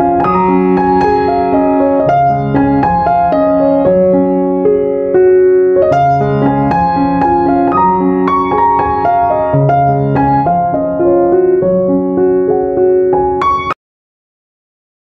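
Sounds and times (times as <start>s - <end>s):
gentle piano melody: 0.0s - 13.8s.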